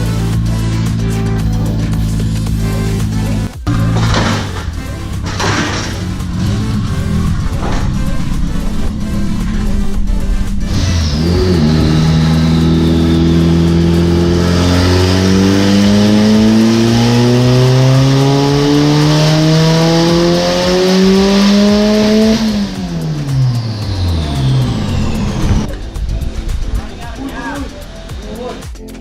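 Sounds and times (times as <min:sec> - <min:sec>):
car engine revving under load: 0:00.0 - 0:28.6.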